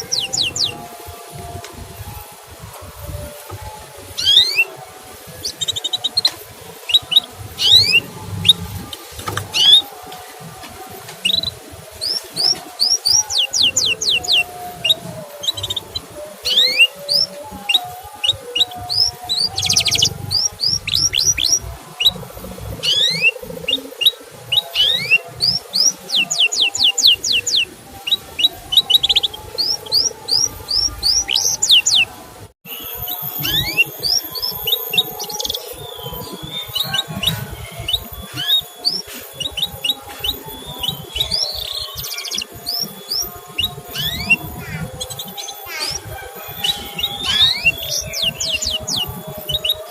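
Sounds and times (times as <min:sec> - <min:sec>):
canary singing: 0:00.0 - 0:49.9.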